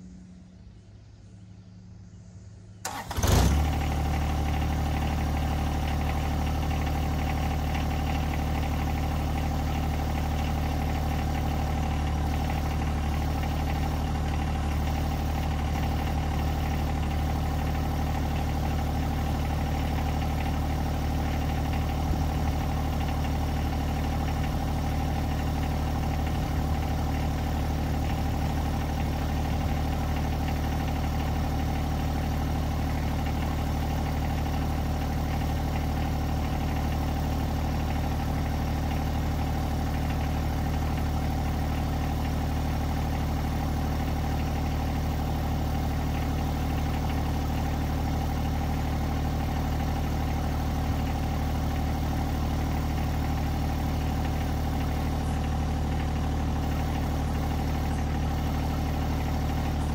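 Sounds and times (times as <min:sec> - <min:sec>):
tractor diesel engine idling: 0:02.0 - 0:59.9.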